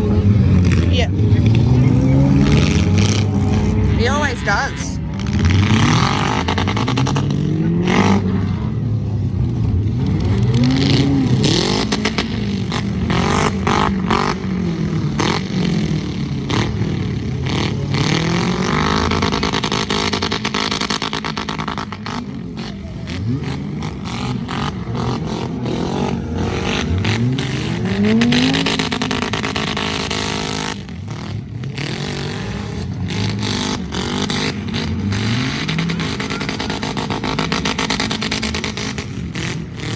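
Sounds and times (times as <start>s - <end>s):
engines revving hard: 0.0s - 39.9s.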